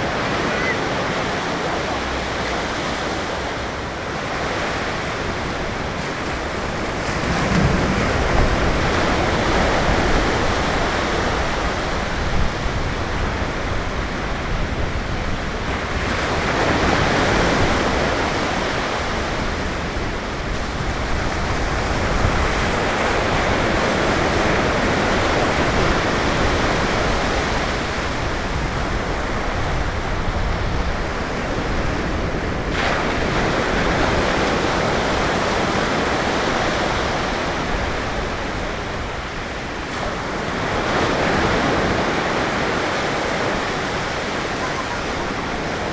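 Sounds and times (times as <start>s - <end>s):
ocean surf breaking: 0.0s - 45.9s.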